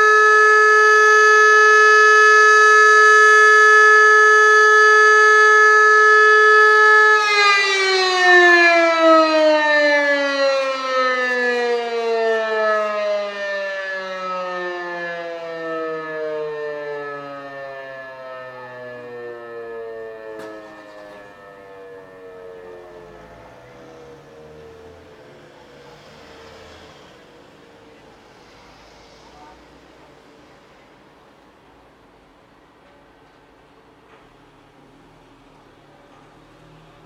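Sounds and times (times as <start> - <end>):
motor siren steady tone: 0.0 - 29.8.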